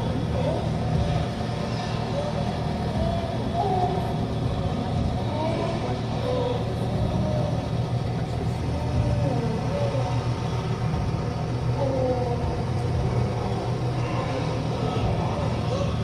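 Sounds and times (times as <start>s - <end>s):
distant voices: 0.0s - 16.0s
low rumble: 0.0s - 16.0s.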